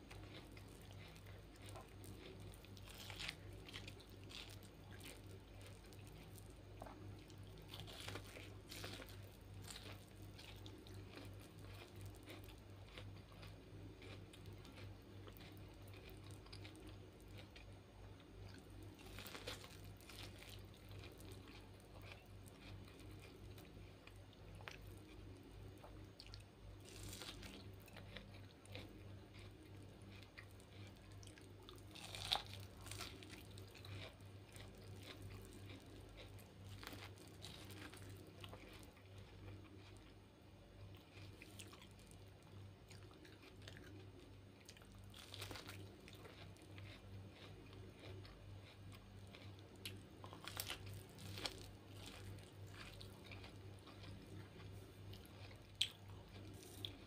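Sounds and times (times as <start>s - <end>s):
biting and chewing corn: 0.0s - 57.0s
faint low hum: 0.0s - 57.0s.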